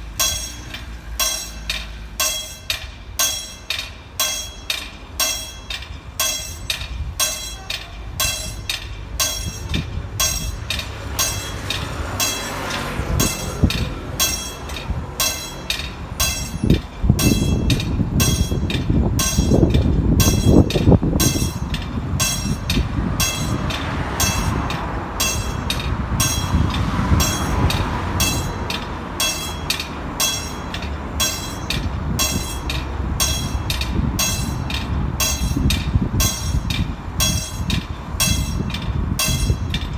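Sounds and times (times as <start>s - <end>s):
diesel train rumbling past: 0.0s - 39.9s
warning bell ringing: 0.0s - 39.9s.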